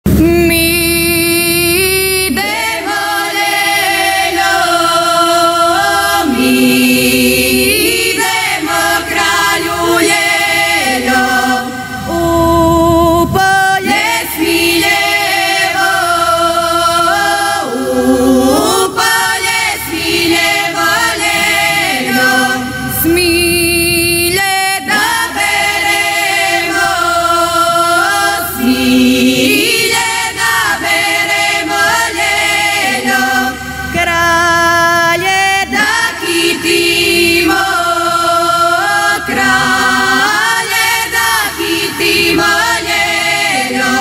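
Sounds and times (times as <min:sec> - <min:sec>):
women singing unaccompanied: 0:00.1 - 0:44.0.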